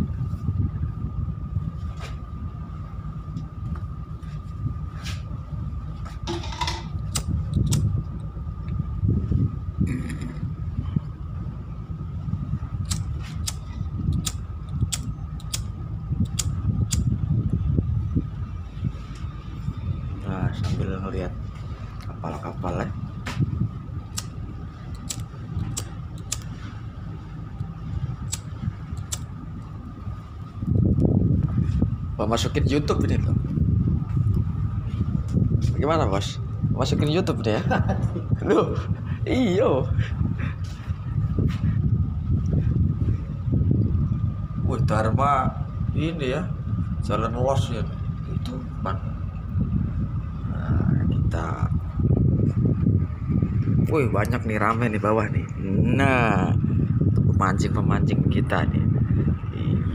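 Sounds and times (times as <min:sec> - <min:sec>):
constant high whine: 0:00.0 - 0:59.9
ship machinery rumble: 0:00.0 - 0:59.9.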